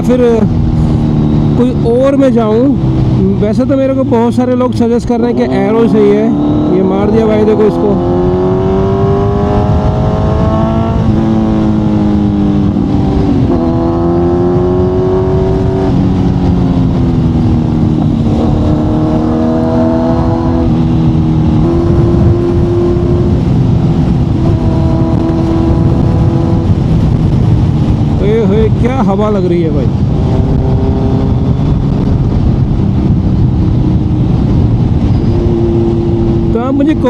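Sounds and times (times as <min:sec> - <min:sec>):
motorcycle engine while riding: 0:00.0 - 0:37.0
wind noise: 0:00.0 - 0:37.0.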